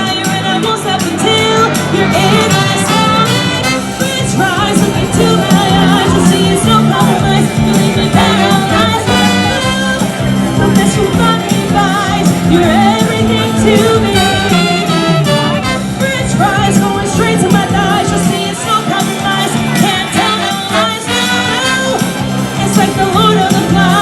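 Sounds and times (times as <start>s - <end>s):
women's vocal group singing: 0.0s - 15.0s, 15.8s - 24.0s
instrumental backing with bass line: 0.0s - 24.0s.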